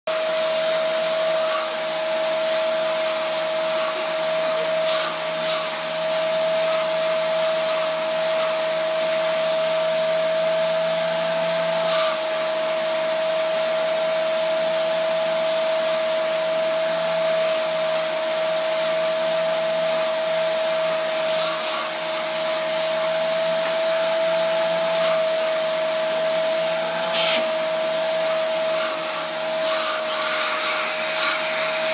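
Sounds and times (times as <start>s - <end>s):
vacuum cleaner whining: 0.1s - 31.9s.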